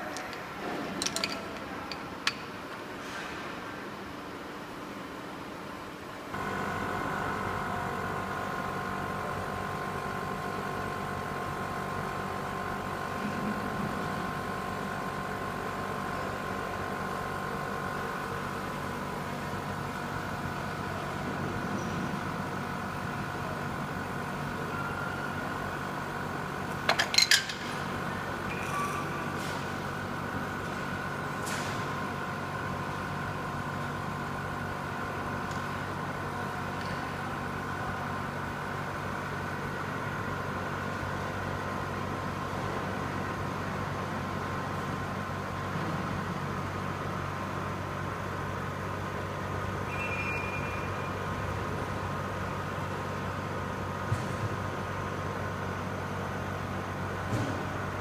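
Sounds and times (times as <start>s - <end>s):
air pump whining hum: 0.0s - 58.0s.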